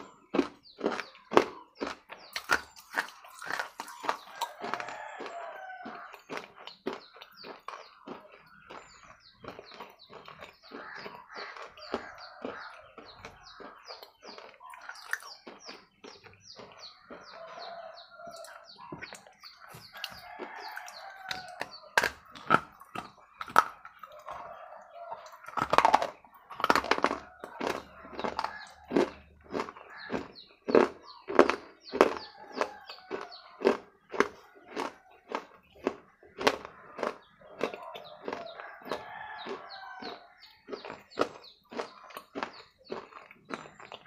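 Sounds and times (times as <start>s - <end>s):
bird chirping: 0.0s - 44.0s
biting and chewing: 0.0s - 44.0s.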